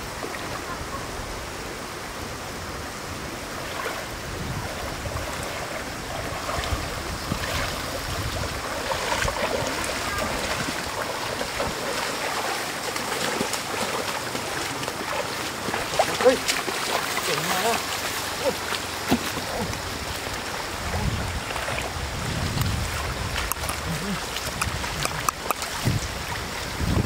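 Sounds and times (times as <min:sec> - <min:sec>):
water rushing: 0:00.0 - 0:27.0
boots sloshing through water: 0:03.5 - 0:27.0.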